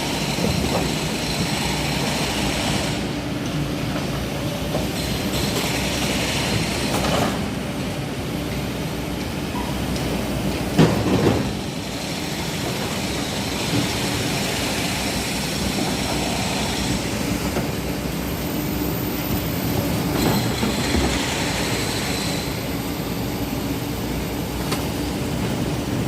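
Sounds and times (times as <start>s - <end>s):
excavator diesel engine and hydraulics: 0.0s - 26.0s.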